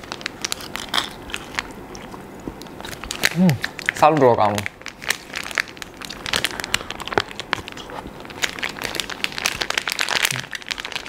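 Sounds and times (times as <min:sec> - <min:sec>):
plastic packet crinkling: 0:00.0 - 0:11.0.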